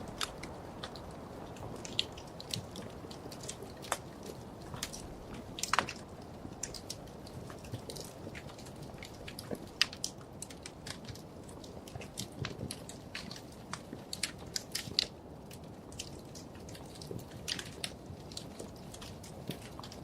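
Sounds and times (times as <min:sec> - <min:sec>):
sharp pops and snaps: 0:00.0 - 0:20.0
wood fire crackling: 0:00.0 - 0:20.0.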